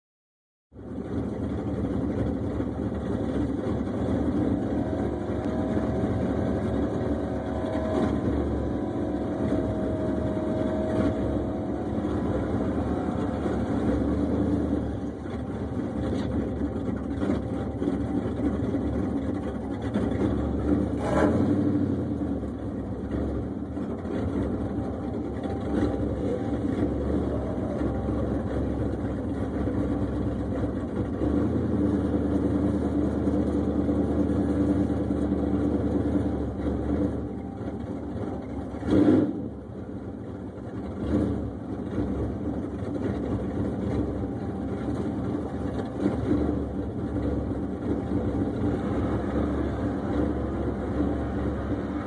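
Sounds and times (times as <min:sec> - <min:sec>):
car engine idling: 0:00.7 - 0:52.0.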